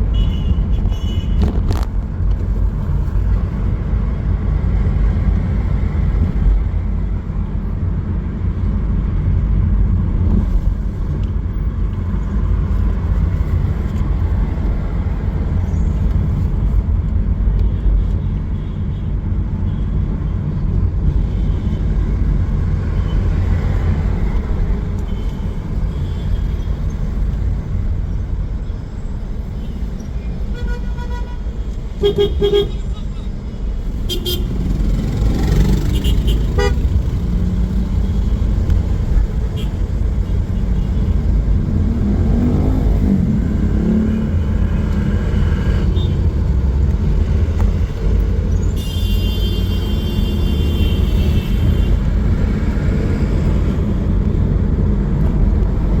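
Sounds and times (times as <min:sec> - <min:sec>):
city traffic rumble: 0:00.0 - 0:56.0.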